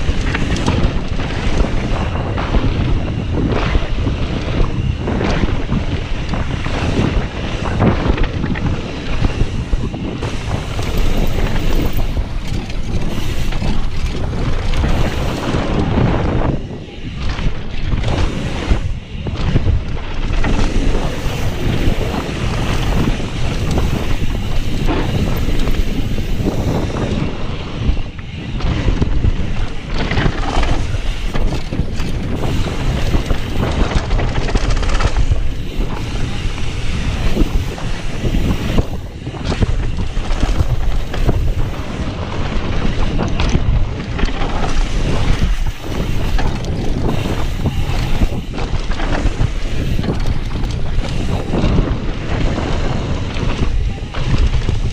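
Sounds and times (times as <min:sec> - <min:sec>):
bike knocks and rattles: 0:00.0 - 0:54.9
tyres rumbling on dirt: 0:00.0 - 0:54.9
wind buffeting microphone: 0:00.0 - 0:54.9.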